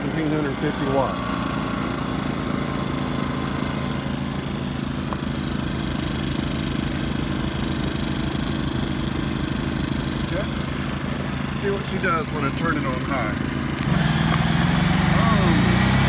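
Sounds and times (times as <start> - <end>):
portable generator running: 0.0 - 16.0.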